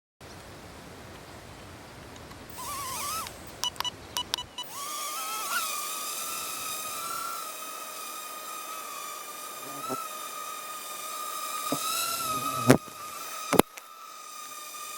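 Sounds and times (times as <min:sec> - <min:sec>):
tiny drone motors whining: 0:02.5 - 0:14.9.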